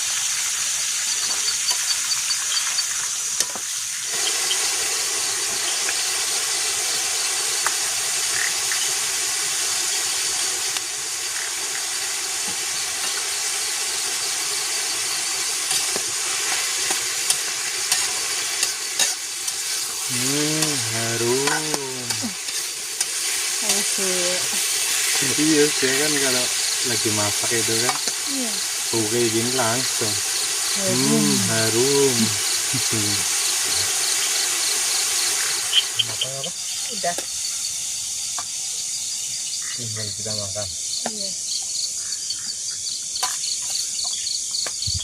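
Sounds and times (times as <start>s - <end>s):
food sizzling in a pan: 0.0s - 45.0s.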